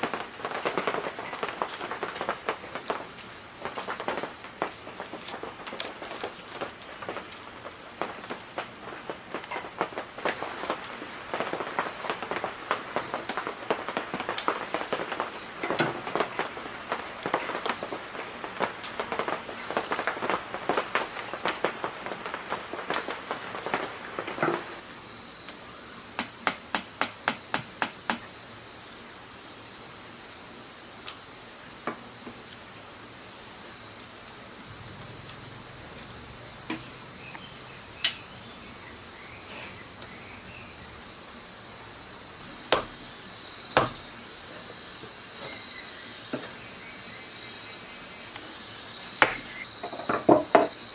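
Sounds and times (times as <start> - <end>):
high insect trill: 0.0 - 50.9.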